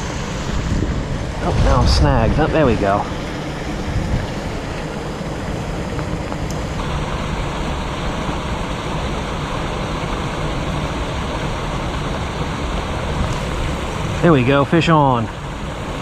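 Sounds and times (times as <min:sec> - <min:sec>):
steady rain: 0:00.0 - 0:16.0
wind buffeting microphone: 0:00.0 - 0:16.0.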